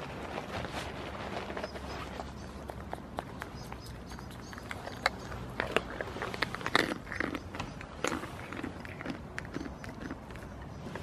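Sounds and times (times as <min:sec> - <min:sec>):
goat chewing crunchily: 0:00.0 - 0:11.0.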